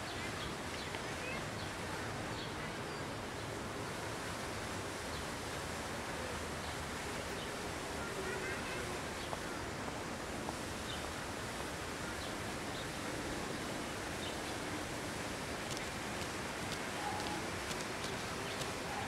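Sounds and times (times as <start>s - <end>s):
hiss-like background noise: 0.0s - 19.0s.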